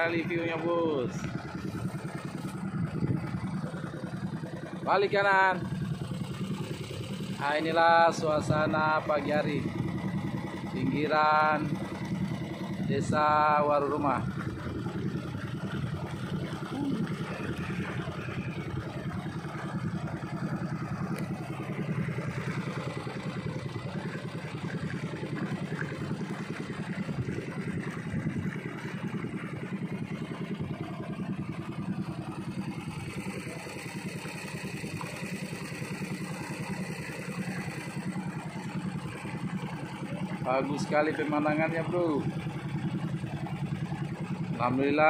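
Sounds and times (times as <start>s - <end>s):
boat motor running: 0.0s - 45.0s.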